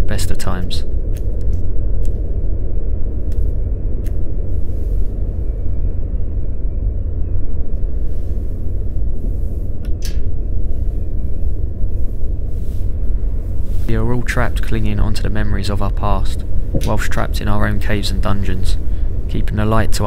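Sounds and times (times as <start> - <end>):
loud low rumble: 0.8 - 8.0, 10.4 - 20.0.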